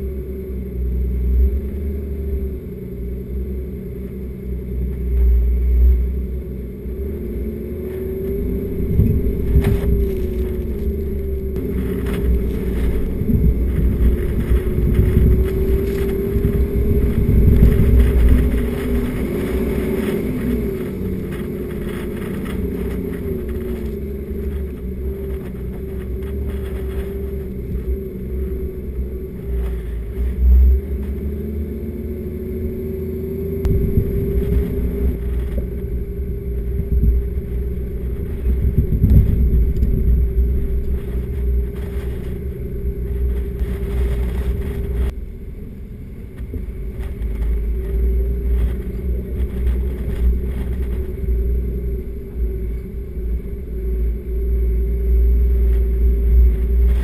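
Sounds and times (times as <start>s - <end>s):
heavy low rumble: 0.0s - 57.0s
vehicle engine drone: 0.0s - 57.0s.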